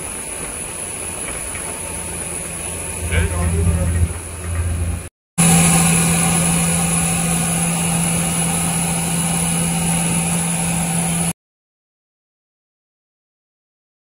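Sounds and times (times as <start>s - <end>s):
boat diesel engine humming: 0.0s - 11.3s.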